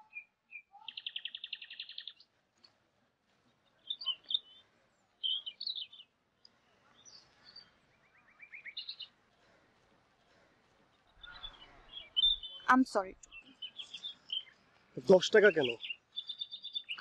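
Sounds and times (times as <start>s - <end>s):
small birds chirping: 0.0s - 2.7s, 3.3s - 17.0s.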